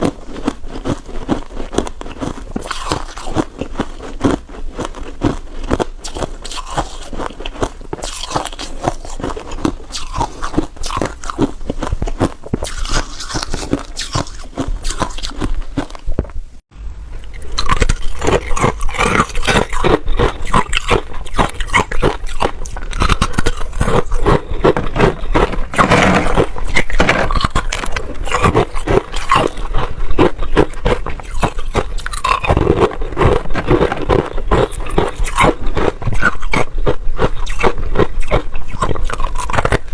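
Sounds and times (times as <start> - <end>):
wet mouth sounds: 0.0 - 16.3, 17.2 - 39.9
frost crunching in mouth: 0.0 - 16.4, 17.2 - 39.9.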